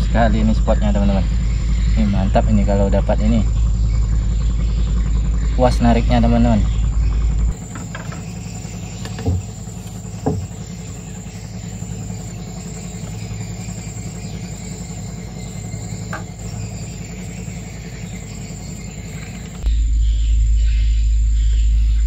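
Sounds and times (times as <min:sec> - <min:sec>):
low even hum: 0:00.0 - 0:22.0
night insects chorus: 0:00.0 - 0:22.0.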